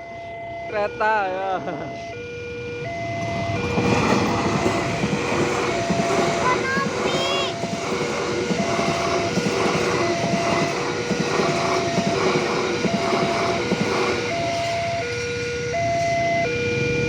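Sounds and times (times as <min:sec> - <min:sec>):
two-tone crossing alarm: 0:00.0 - 0:17.0
train rumbling and clattering: 0:01.6 - 0:17.0.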